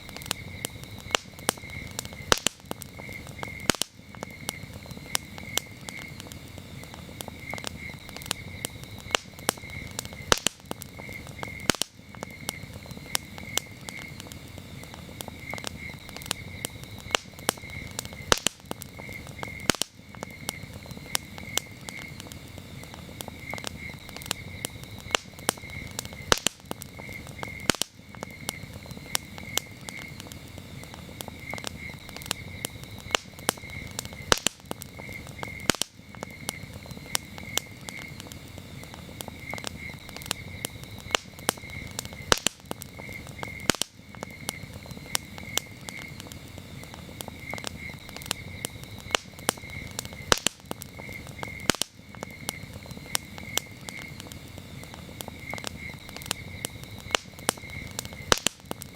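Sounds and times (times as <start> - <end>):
campfire crackling and popping: 0.0 - 58.9
crickets chirping: 0.0 - 58.9.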